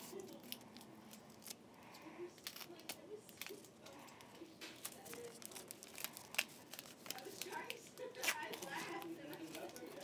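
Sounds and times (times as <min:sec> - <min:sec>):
tape crinkling and tearing: 0:00.0 - 0:01.6, 0:02.3 - 0:04.0, 0:04.6 - 0:10.0.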